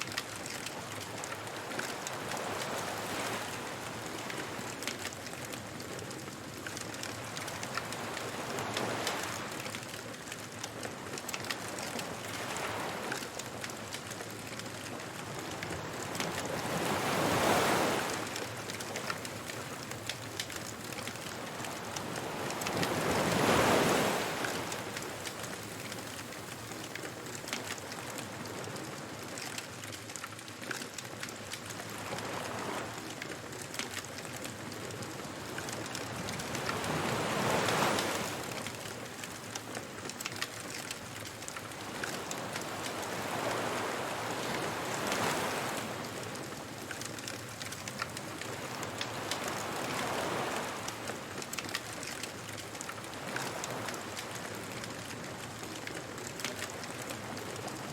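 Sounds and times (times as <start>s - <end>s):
surf washing onto beach: 0.0s - 9.9s, 10.8s - 29.0s, 31.5s - 33.2s, 33.9s - 57.9s
bonfire crackling: 0.1s - 57.7s.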